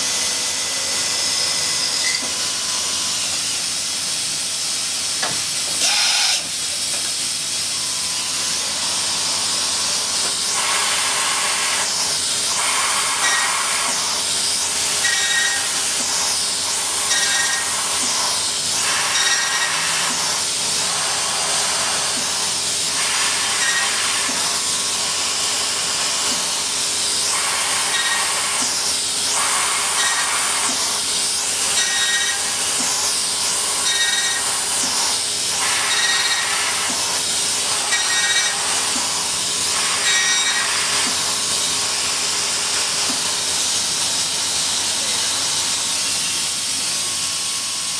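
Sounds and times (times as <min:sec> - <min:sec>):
mill cutting metal: 0:00.0 - 0:04.6, 0:07.7 - 0:47.9
machine hiss: 0:00.0 - 0:47.9.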